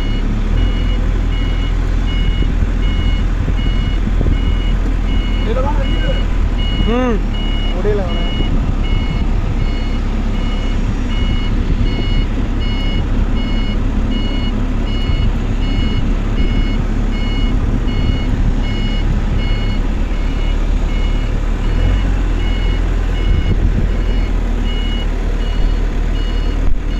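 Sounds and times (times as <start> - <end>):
reversing alarm beeping: 0.0 - 26.9
tractor engine running low: 0.0 - 26.9.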